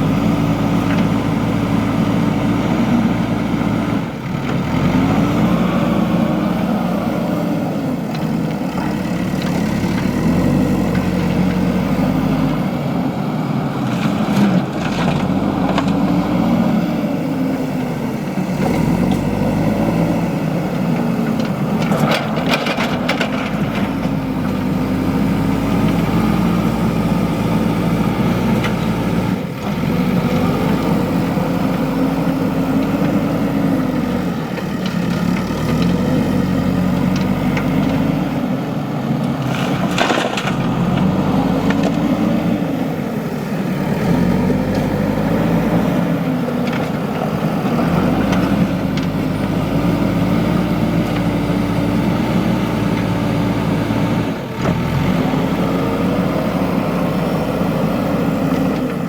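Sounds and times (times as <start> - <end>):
backhoe diesel engine working: 0.0 - 59.0.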